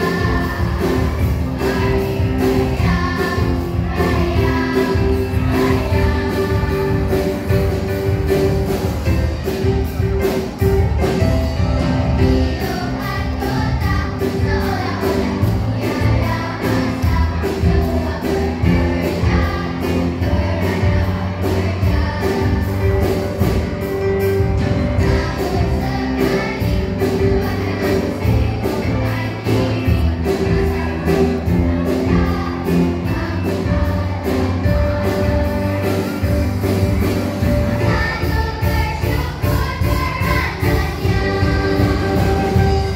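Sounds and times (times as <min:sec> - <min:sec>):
children's choir singing: 0:00.0 - 0:42.9
instrumental accompaniment with beat: 0:00.0 - 0:42.9.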